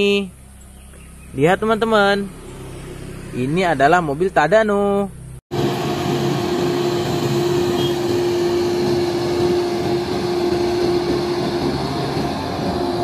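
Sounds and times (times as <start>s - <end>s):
diesel engine droning: 0.0s - 13.0s
road noise: 0.0s - 13.0s.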